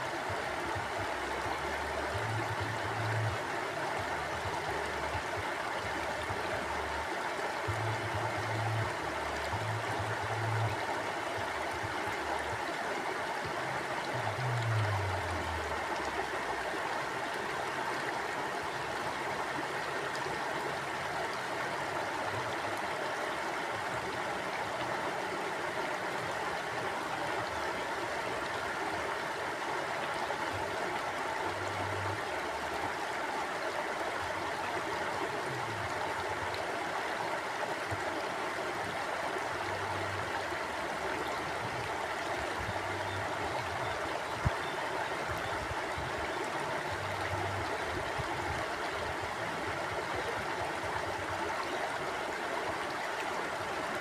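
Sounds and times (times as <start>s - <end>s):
stream of water flowing: 0.0s - 54.0s.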